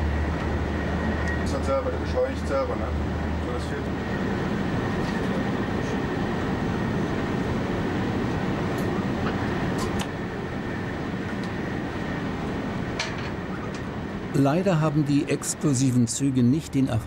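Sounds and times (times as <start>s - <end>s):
faint high whine: 0.0s - 17.0s
train wheels rumbling on rail: 0.0s - 17.0s.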